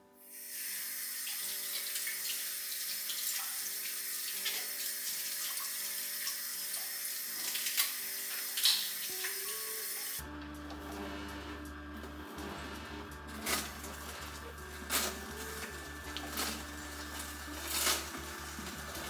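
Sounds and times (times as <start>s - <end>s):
tap water running into sink: 0.4s - 10.2s, 13.0s - 19.0s.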